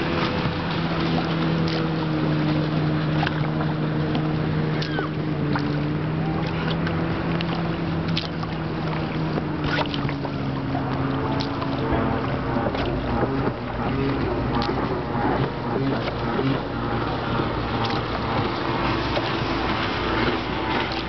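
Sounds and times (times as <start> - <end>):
boat motor humming: 0.0 - 21.0
water noise: 0.0 - 21.0.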